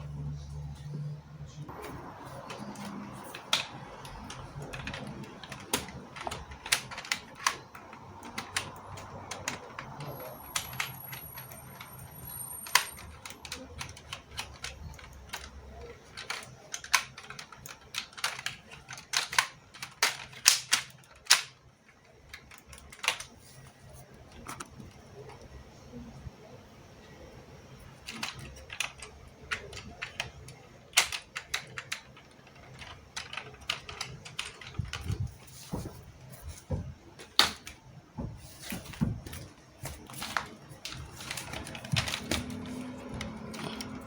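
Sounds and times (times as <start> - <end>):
plastic parts clicking: 1.7 - 25.5, 27.8 - 44.0.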